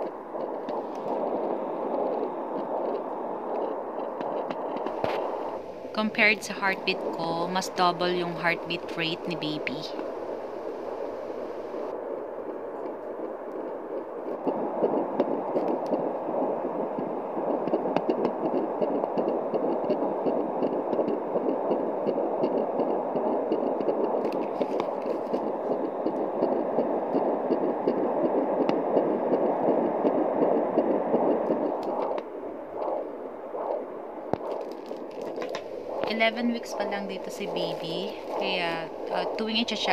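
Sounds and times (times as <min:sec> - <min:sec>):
fetal heartbeat on doppler speaker: 0:00.0 - 0:39.9.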